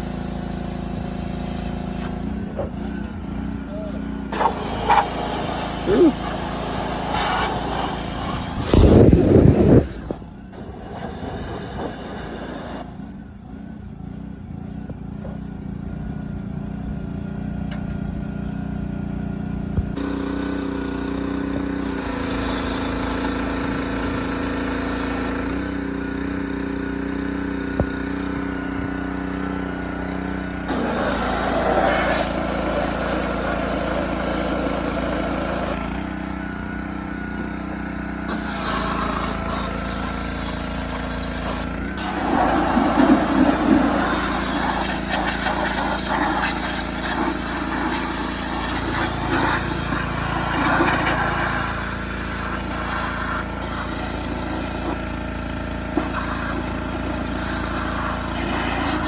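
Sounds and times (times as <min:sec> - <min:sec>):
motor running: 0:00.0 - 0:59.0.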